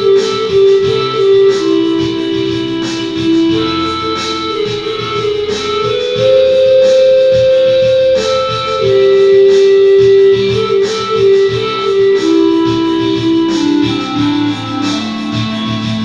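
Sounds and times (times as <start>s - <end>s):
electronic keyboard pan flute melody: 0.0s - 16.0s
strummed guitar-like accompaniment: 0.0s - 16.0s.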